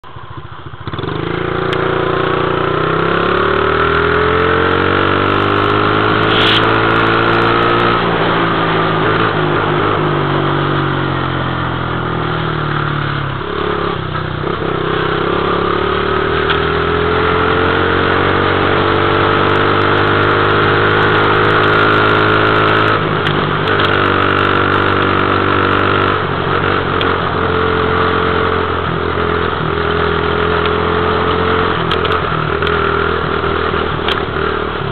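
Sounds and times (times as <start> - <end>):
dirt bike engine revving: 0.8 - 34.9.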